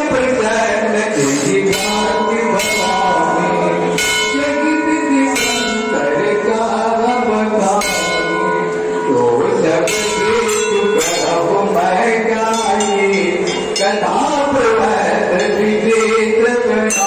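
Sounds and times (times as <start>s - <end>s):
person singing devotional song: 0.0s - 17.0s
temple bell ringing: 1.7s - 17.0s.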